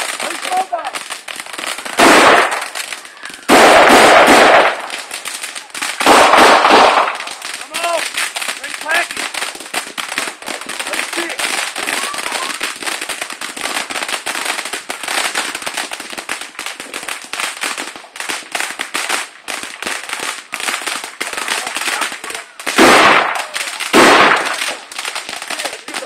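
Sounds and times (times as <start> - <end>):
firework bangs: 0.0 - 26.0
firework fountains crackling: 0.0 - 26.0.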